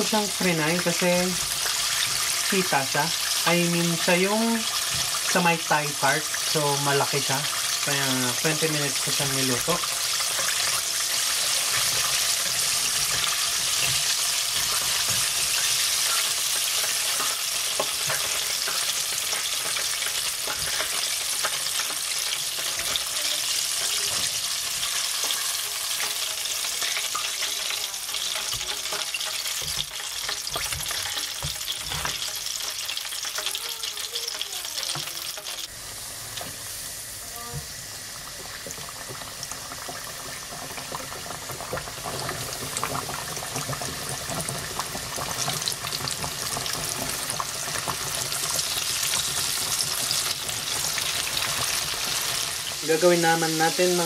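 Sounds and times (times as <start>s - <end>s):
chicken deep-frying in oil: 0.0s - 54.0s.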